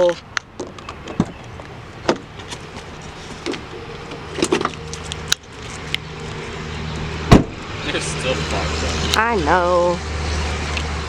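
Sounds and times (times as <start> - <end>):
vehicle engine idling: 0.1 - 11.0.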